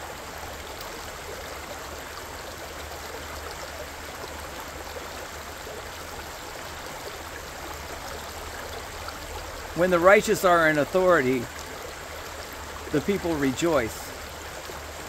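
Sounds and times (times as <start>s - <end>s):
stream flowing: 0.0s - 15.0s.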